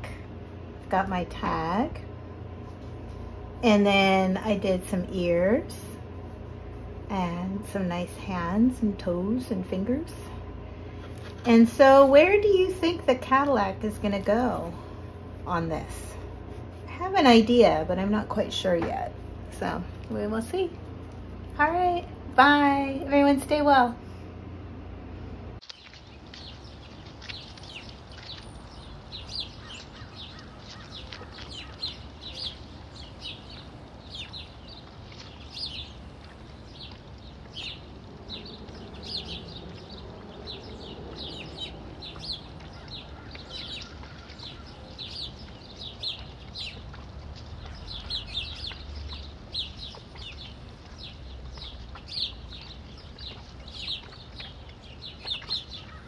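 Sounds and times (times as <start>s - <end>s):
low microphone hum: 0.0s - 56.0s.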